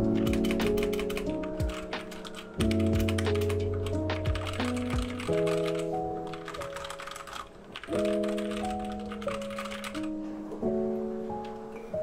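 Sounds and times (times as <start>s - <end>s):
mechanical keyboard typing: 0.0s - 10.1s.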